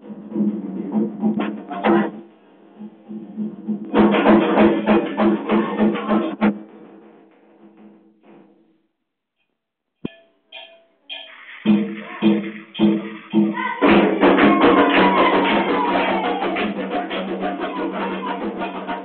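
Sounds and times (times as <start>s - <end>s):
drums playing: 0.0s - 8.5s, 10.5s - 19.0s.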